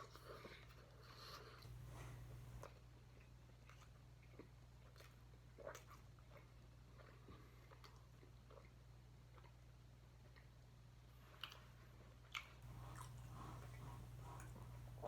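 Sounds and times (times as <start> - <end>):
person chewing: 0.0 - 10.6, 11.3 - 15.0
low steady hum: 0.0 - 15.0.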